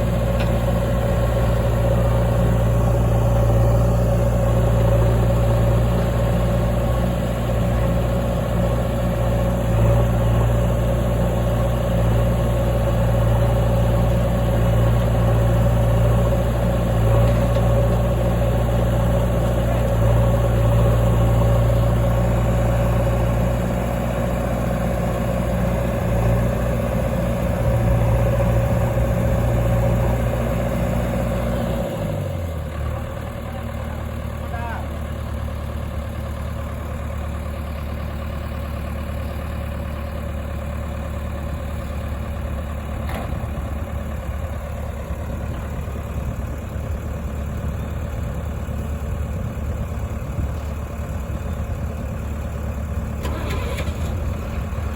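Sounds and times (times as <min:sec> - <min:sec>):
heavy diesel engine drone: 0:00.0 - 0:54.9.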